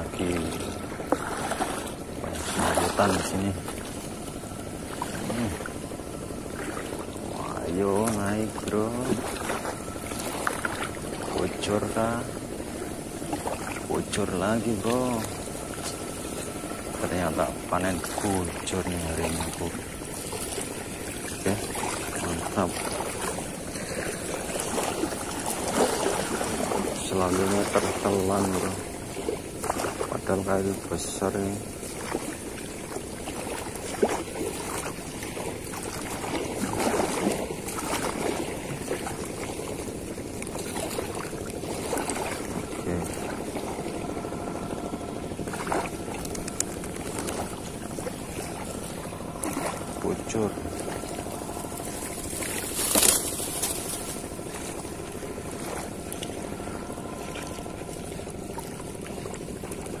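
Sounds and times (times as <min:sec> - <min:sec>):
engine humming: 0:00.0 - 1:00.0
small waves washing on shore: 0:00.0 - 1:00.0.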